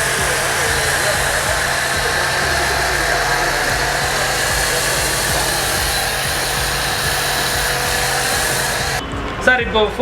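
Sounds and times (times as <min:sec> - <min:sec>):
foam gun spraying hiss: 0:00.0 - 0:09.0
machine motor running: 0:00.0 - 0:09.0.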